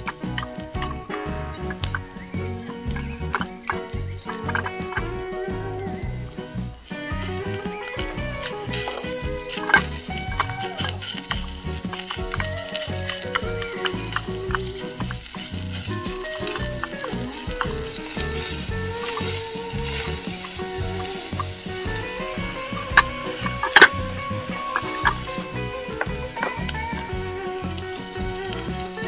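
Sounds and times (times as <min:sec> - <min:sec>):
meat sizzling in oil: 0:00.0 - 0:29.0
sharp taps: 0:00.0 - 0:29.0.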